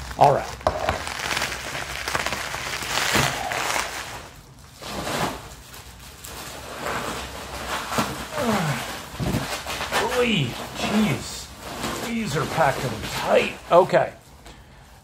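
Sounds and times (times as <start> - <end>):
bubble wrap crinkling: 0.0 - 14.4.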